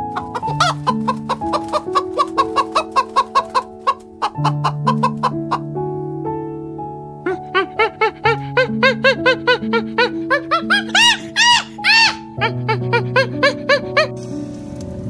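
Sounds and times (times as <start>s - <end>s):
chickens clucking: 0.0s - 5.7s, 7.3s - 14.1s.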